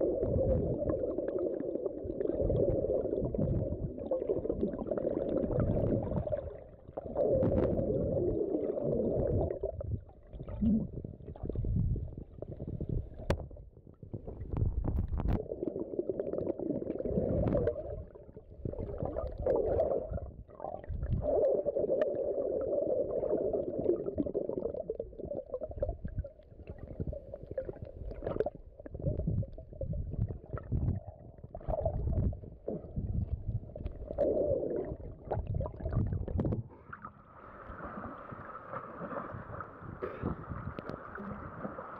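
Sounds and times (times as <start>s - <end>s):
muffled underwater water sloshing: 0.0s - 41.9s.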